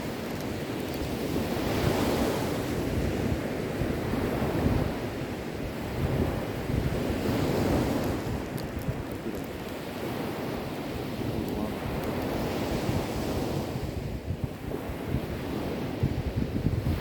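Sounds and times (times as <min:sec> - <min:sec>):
sea waves breaking: 0:00.0 - 0:16.0.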